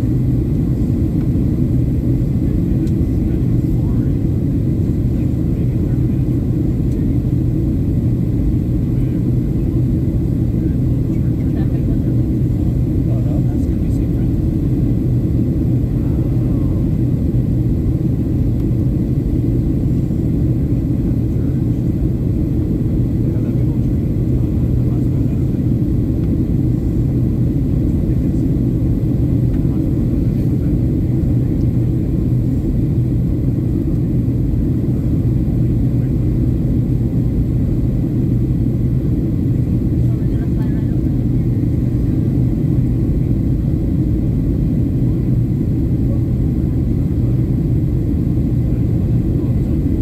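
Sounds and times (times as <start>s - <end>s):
airplane cabin engine rumble: 0.0s - 50.0s
constant low hum: 0.0s - 50.0s.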